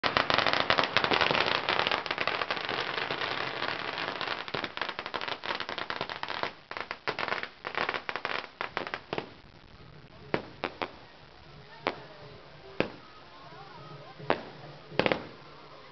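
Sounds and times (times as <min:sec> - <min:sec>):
firecrackers crackling: 0:00.0 - 0:15.9.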